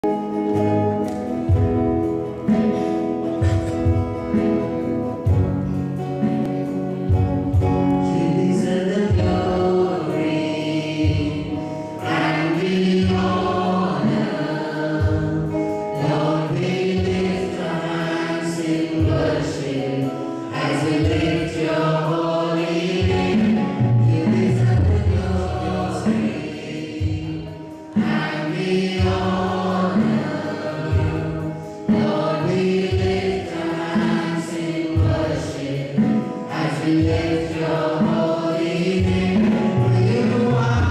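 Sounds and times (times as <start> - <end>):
instrumental backing with bass: 0.0 - 17.3, 19.1 - 40.9
group singing worship song: 0.0 - 40.9.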